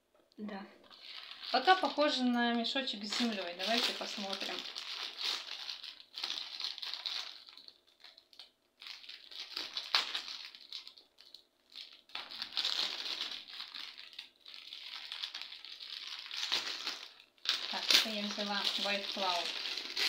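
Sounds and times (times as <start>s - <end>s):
plastic bag crinkling: 0.8s - 20.0s.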